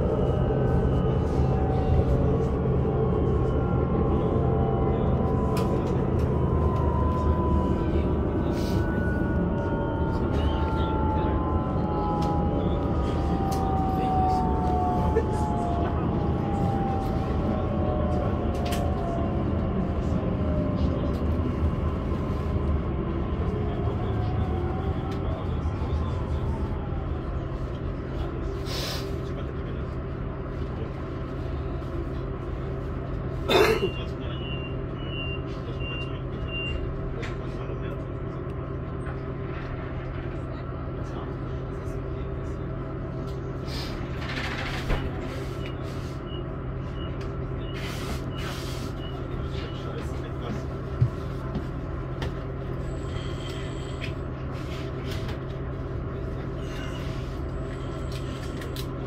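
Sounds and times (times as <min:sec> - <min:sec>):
electric train running hum: 0:00.0 - 0:59.0.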